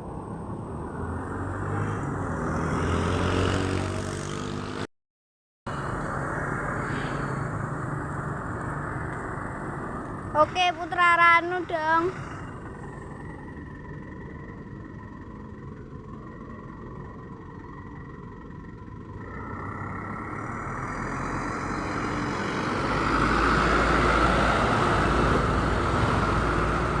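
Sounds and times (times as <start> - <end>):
bus passing by: 0.0 - 4.9, 5.7 - 27.0.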